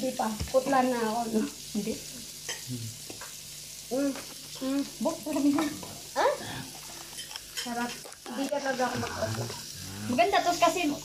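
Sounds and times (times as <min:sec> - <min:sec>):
meat sizzling on a grill: 0:00.0 - 0:11.0.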